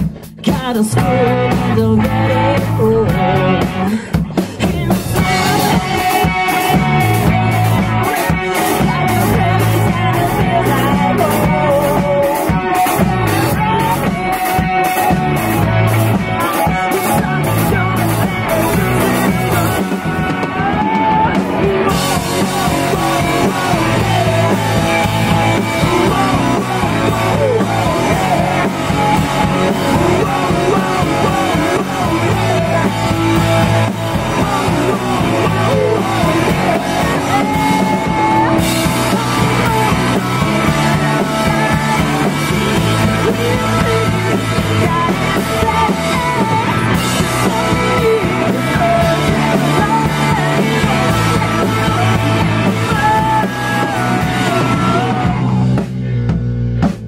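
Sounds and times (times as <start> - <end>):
live rock band with singing: 0.0 - 57.0.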